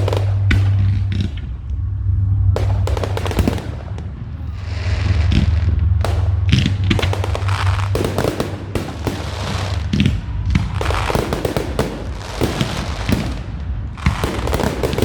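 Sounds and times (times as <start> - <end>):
fireworks bangs: 0.0 - 15.0
fireworks crackling: 0.0 - 15.0
low rumble: 0.0 - 15.0.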